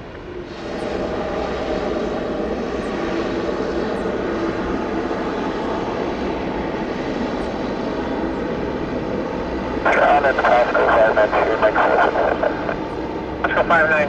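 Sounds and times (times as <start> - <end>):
airliner engines passing: 0.0 - 14.0.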